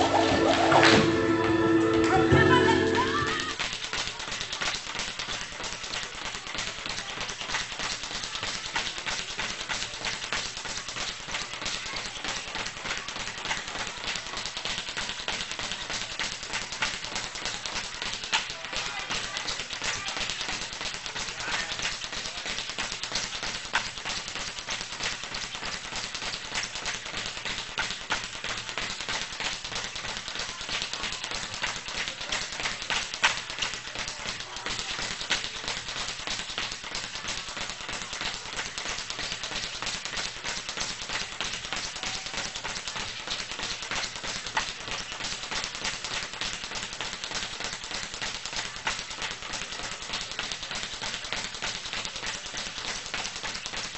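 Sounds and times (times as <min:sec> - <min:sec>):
boxing taps and slaps: 0:03.6 - 0:53.9.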